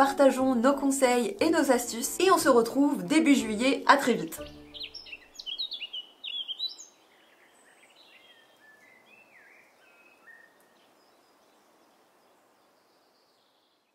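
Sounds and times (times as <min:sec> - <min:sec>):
outdoor ambience hiss: 0:00.0 - 0:13.9
small birds singing: 0:01.6 - 0:13.9.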